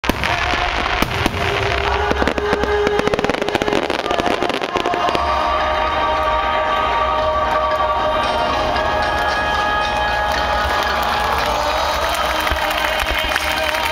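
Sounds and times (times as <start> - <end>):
fireworks crackling: 0.0 - 13.9
music playing: 0.0 - 13.9.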